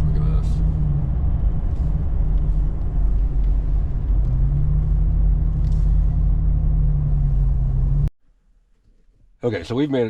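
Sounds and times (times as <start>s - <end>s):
engine and road rumble in cabin: 0.0s - 8.1s
steady low drone: 0.0s - 8.1s.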